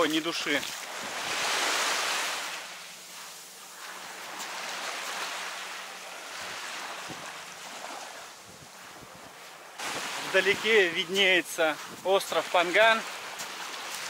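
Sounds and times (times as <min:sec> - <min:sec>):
small waves washing on sand: 0:00.0 - 0:14.0.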